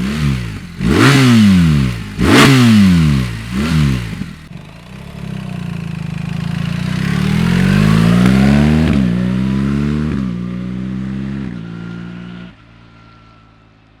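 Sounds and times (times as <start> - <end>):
motorcycle engine accelerating: 0.0 - 13.5.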